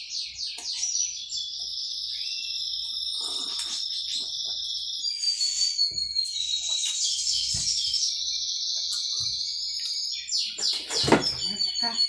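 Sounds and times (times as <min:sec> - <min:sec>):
songbird trilling and whistling: 0:00.0 - 0:12.0.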